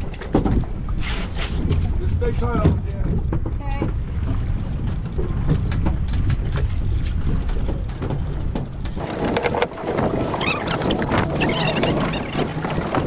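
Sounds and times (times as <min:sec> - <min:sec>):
boat engine rumble: 0:00.0 - 0:13.0
wind buffeting microphone: 0:00.0 - 0:13.0.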